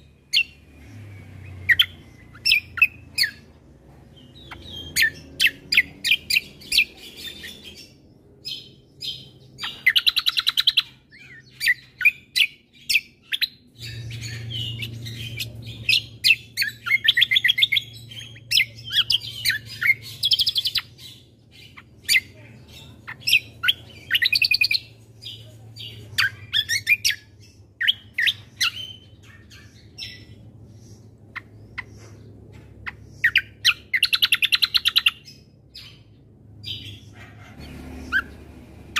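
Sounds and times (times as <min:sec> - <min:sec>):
songbird trilling and chirping: 0:00.0 - 0:38.9.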